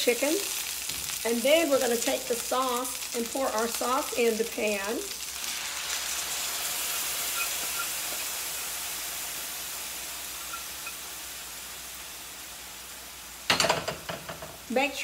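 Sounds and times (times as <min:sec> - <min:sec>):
sauce sizzling in a frying pan: 0:00.0 - 0:15.0.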